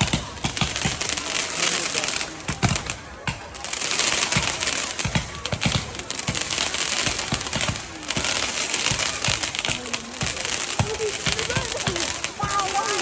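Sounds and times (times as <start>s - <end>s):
fireworks crackling: 0.0s - 13.0s
low firework thuds: 0.0s - 13.0s.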